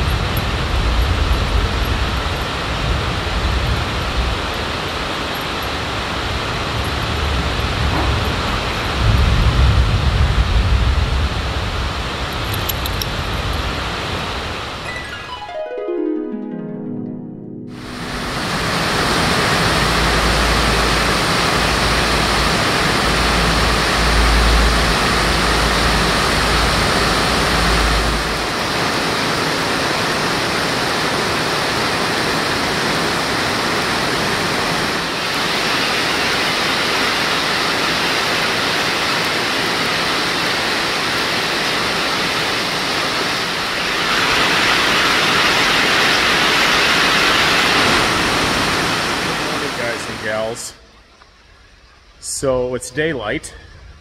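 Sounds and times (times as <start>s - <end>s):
torrential rain pouring: 0.0s - 16.1s, 17.8s - 54.0s.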